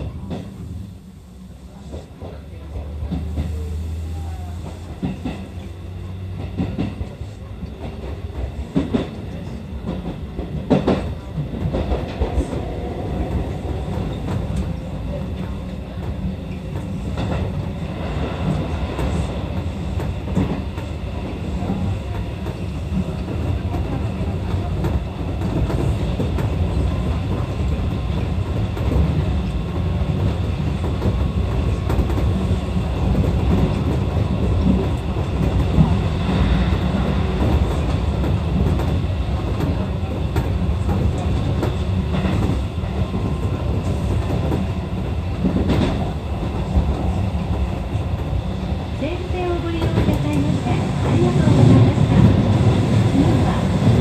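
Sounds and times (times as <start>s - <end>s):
electric train rumbling: 0.0s - 54.0s
train wheels clicking over track: 4.6s - 48.4s.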